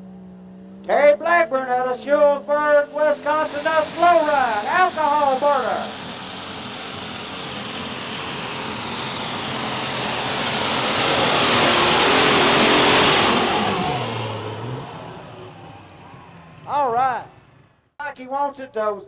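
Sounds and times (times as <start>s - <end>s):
pulling tractor engine roaring: 0.0s - 17.9s.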